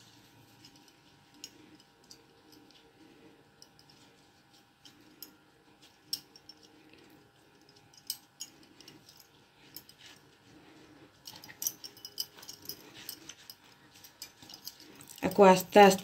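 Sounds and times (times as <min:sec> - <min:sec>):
bangles clinking: 0:00.4 - 0:16.0.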